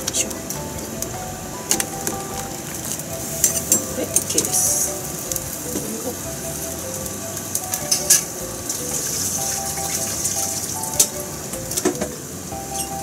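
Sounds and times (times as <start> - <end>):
soft background music: 0.0 - 13.0
water simmering and bubbling: 0.0 - 13.0.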